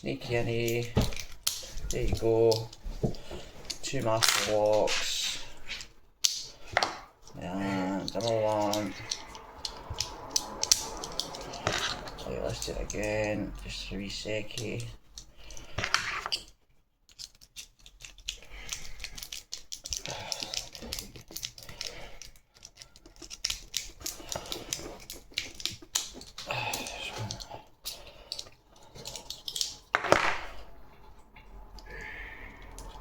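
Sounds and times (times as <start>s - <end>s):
lock pick clicking and scraping: 0.6s - 13.5s, 14.3s - 33.0s.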